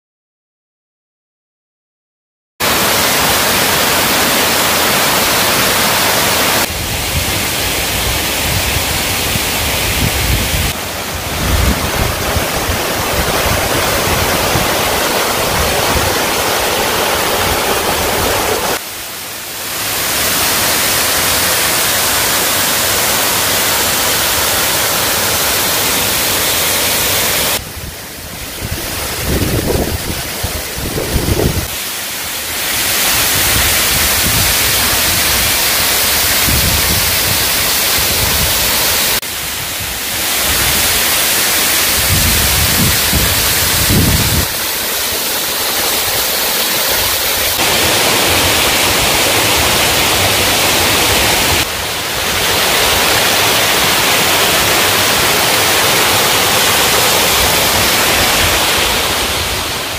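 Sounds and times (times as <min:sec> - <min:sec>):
waterfall rushing: 0:02.6 - 0:59.9.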